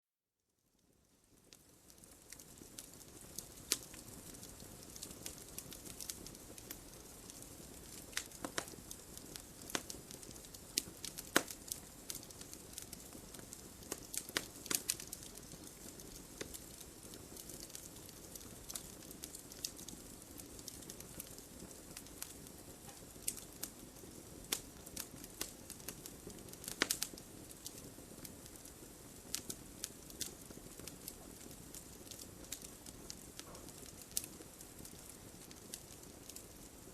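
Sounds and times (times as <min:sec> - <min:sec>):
wood fire crackling: 0:00.5 - 0:36.9.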